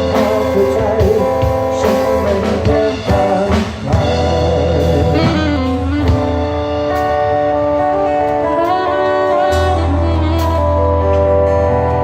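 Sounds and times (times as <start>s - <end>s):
instrumental band music: 0.0s - 12.0s.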